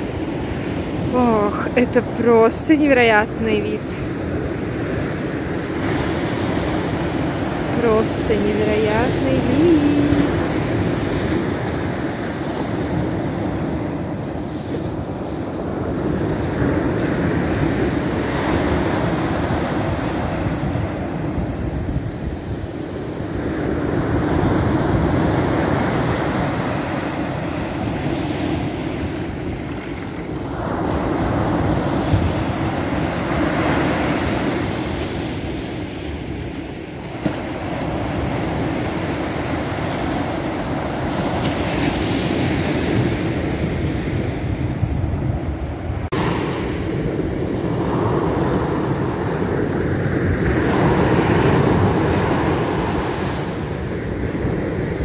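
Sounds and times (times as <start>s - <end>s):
surf waves breaking on shore: 0.0s - 55.0s
wind buffeting microphone: 0.0s - 55.0s.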